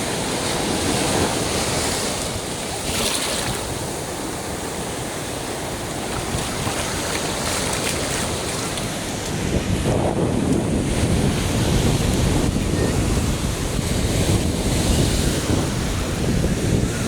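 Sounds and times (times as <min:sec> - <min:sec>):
ocean surf on shore: 0:00.0 - 0:17.0
wind buffeting microphone: 0:00.0 - 0:17.0.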